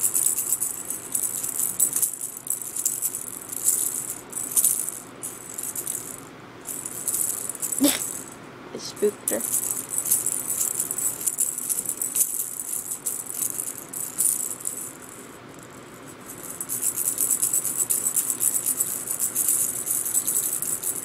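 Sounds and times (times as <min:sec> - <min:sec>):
cat toy rattling: 0:00.0 - 0:08.4, 0:09.2 - 0:21.0.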